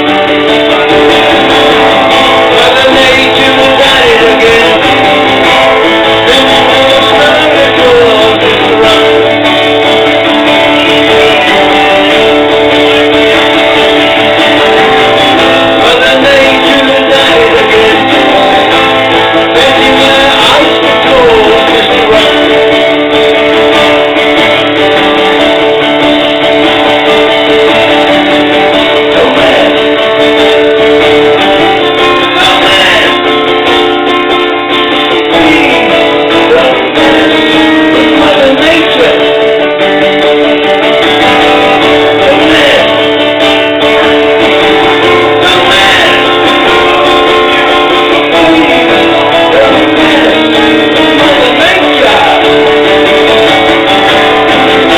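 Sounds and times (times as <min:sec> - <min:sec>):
loud strummed guitar: 0:00.0 - 0:54.9.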